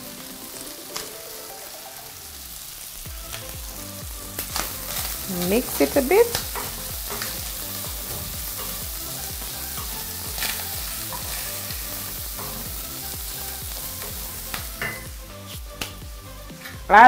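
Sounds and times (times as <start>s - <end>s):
chicken and onions sizzling in pan: 0.0s - 17.0s.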